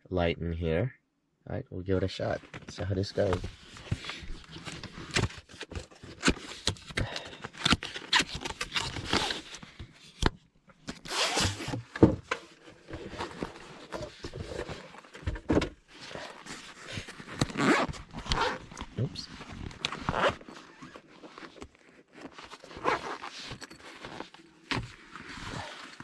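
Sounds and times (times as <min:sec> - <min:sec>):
rustling and scraping: 0:02.2 - 0:10.2, 0:10.9 - 0:26.0.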